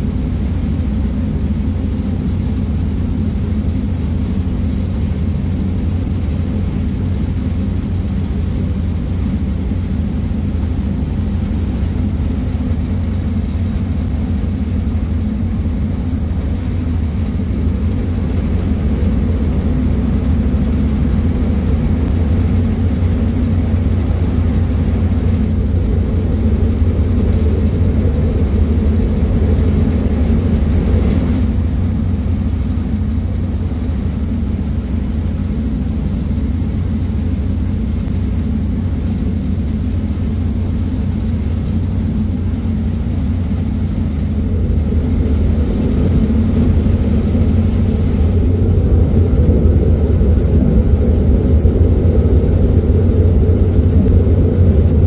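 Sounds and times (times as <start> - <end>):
ferry engines droning: 0.0 - 55.0
rush of churning wake: 0.0 - 55.0.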